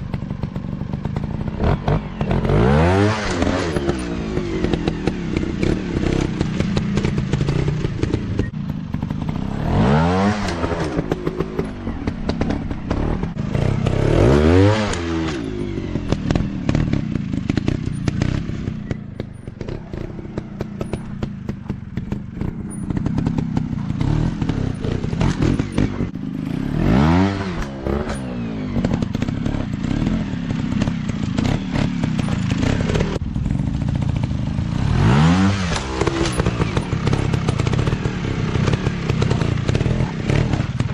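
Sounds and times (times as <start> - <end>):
dirt bike engines revving: 0.0 - 40.9
rattling crackling clatter: 3.2 - 40.9.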